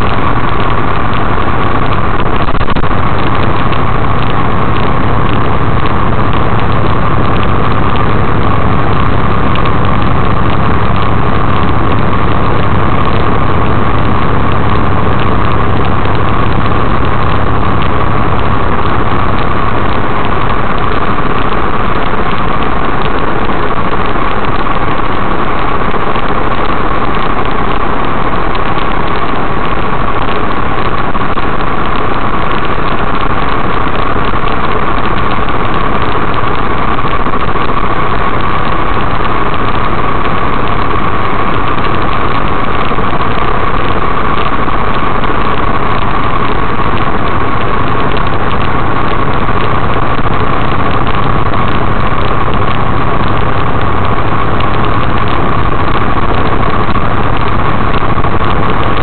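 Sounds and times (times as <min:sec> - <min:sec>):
constant high whine: 0:00.0 - 0:59.0
truck engine and road noise: 0:00.0 - 0:59.0.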